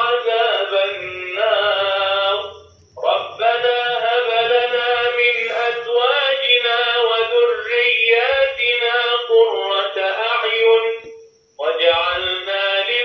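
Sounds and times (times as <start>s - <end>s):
person chanting through small speaker: 0.0s - 13.0s.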